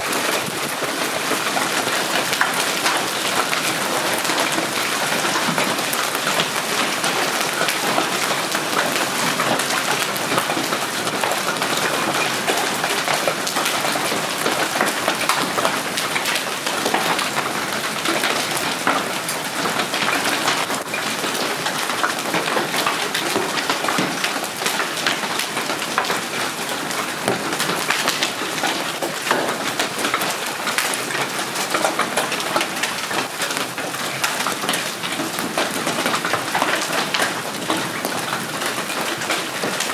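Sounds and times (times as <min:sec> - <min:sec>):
hail pelting down: 0:00.0 - 0:39.9.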